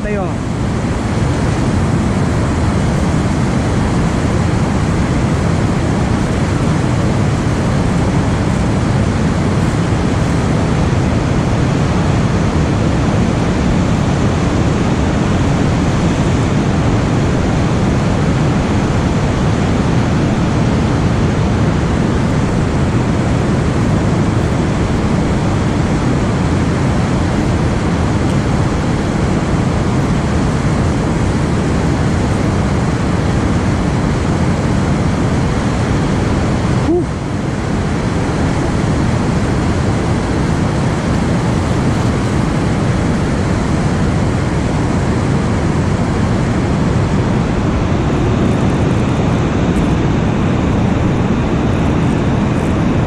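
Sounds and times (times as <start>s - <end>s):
water rushing over dam spillway: 0.0s - 53.0s.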